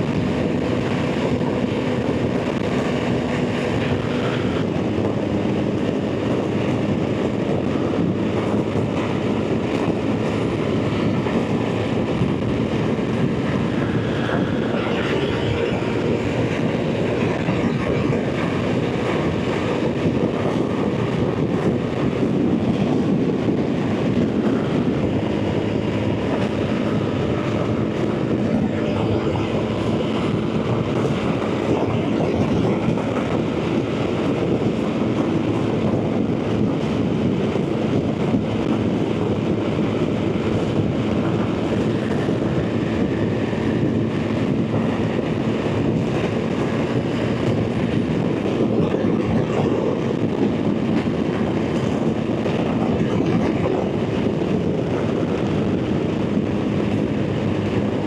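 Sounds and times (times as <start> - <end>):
road noise: 0.0 - 58.0
wind noise: 0.0 - 58.0.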